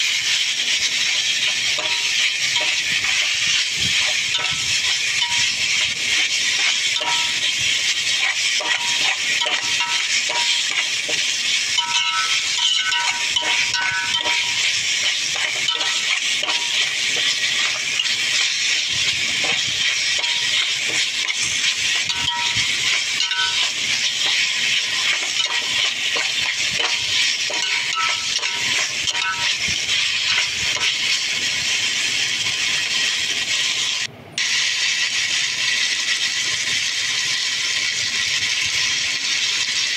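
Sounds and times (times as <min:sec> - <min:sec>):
metal spatula scraping a wok: 0:00.0 - 0:34.1
food sizzling: 0:00.0 - 0:39.9.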